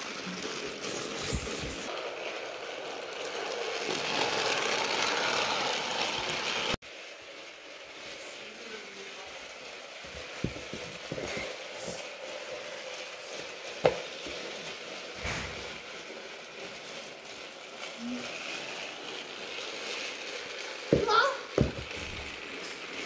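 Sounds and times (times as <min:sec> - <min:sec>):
toy train motor hum: 0:00.0 - 0:23.0
toy train wheel rattle: 0:00.0 - 0:23.0.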